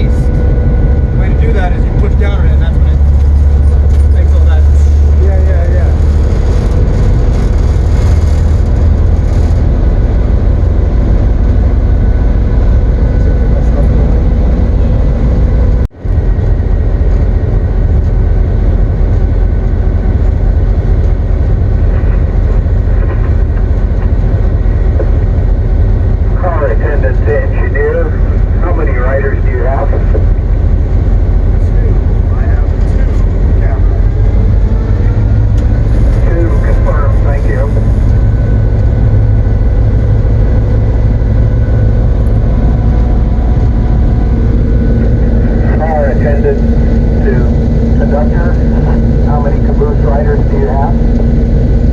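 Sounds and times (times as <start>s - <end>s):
diesel locomotive running: 0.0s - 51.9s
faint steady whine: 0.0s - 51.9s.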